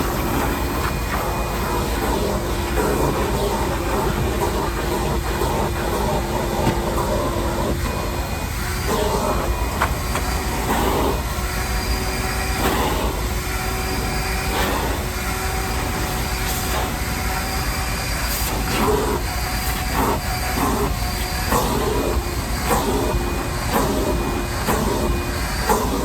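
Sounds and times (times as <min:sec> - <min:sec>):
shop vac motor whine: 0:00.0 - 0:26.0
vacuum nozzle rush over floor: 0:00.0 - 0:26.0.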